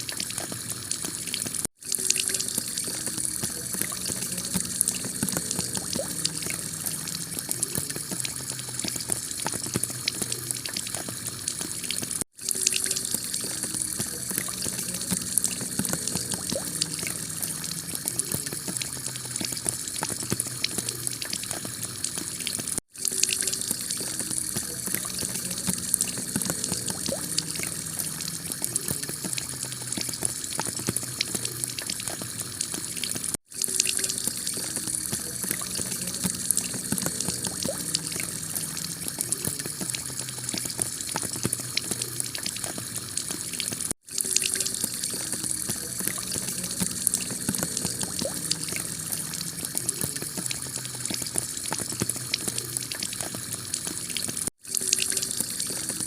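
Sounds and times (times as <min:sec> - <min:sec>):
water running off: 0:00.0 - 0:56.0.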